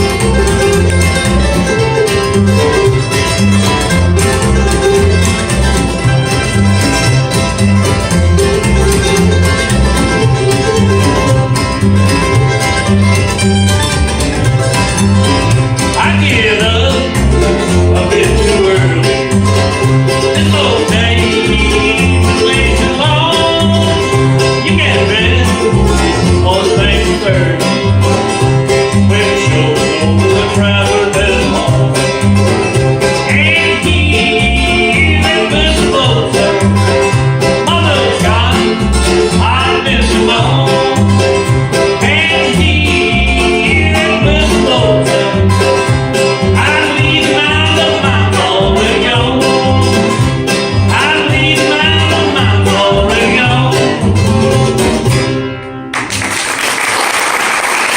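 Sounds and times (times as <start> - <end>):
banjo picking: 0.0 - 56.1
guitar picking: 0.0 - 56.3
bluegrass band playing: 0.0 - 57.9.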